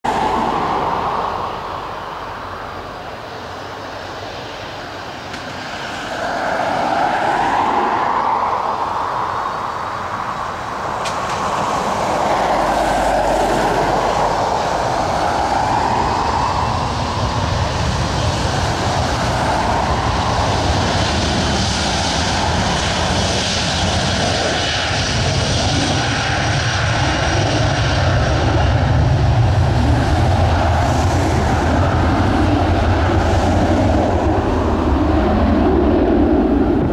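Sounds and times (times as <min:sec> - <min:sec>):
deep jet engine rumble: 0:00.0 - 0:36.9
jet engine whine: 0:00.0 - 0:36.9.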